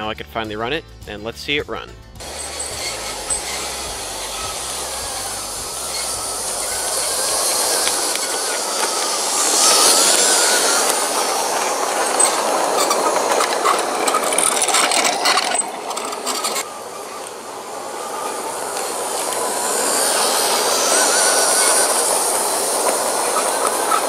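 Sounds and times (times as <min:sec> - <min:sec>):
model train motor whirring: 0:02.2 - 0:24.0
wheels clicking over rail joints: 0:02.2 - 0:24.0.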